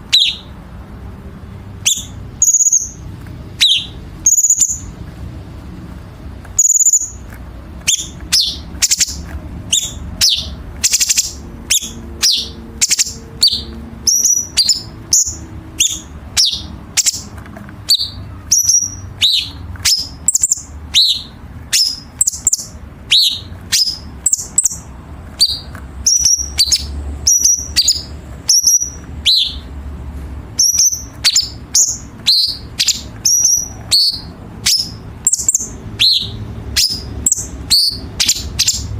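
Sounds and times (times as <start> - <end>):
bird singing harsh high notes: 0.0 - 0.6, 1.8 - 5.0, 6.6 - 7.2, 7.8 - 29.8, 30.5 - 38.9.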